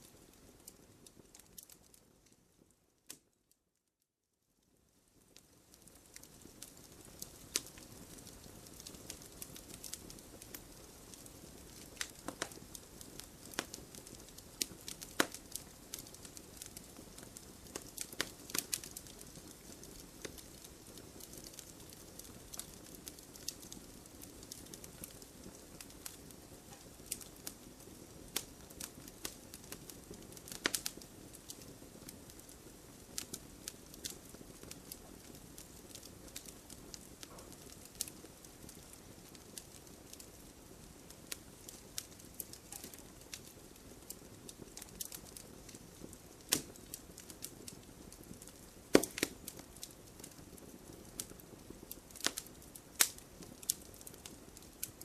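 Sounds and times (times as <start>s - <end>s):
campfire crackling: 0.0s - 3.3s, 4.7s - 55.0s
fire hiss: 6.5s - 55.0s.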